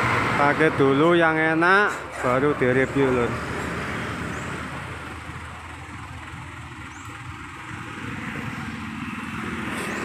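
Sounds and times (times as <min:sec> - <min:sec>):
roadside traffic noise: 0:00.0 - 0:10.0
vehicle engine running: 0:00.0 - 0:10.0.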